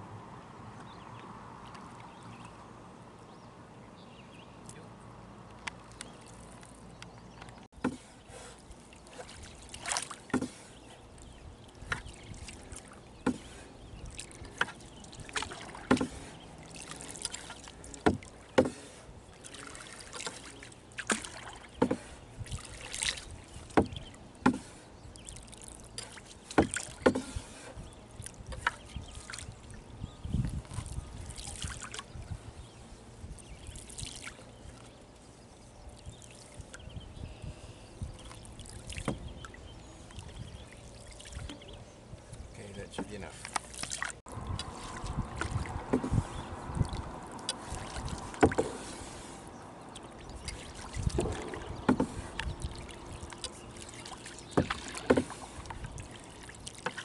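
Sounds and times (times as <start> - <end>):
paddle splashing in water: 5.7 - 37.0, 37.8 - 57.0.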